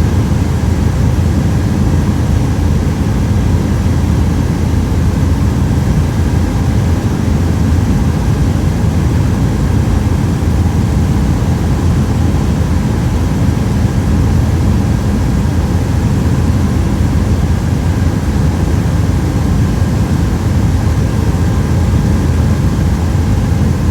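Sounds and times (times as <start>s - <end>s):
helicopter drone: 0.0s - 23.9s.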